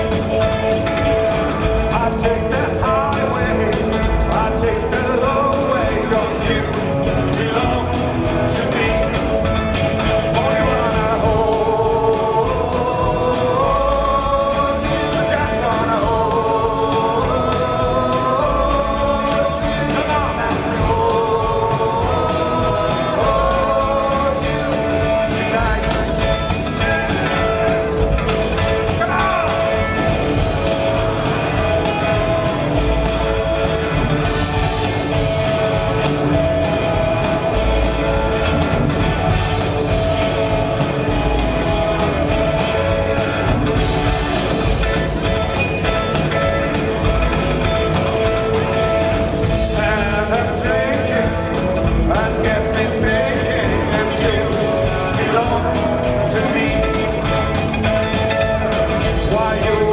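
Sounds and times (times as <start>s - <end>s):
drum kit: 0.0s - 59.9s
electric guitars: 0.0s - 59.9s
person singing lead vocal: 0.0s - 59.9s
upright double bass: 0.0s - 59.9s.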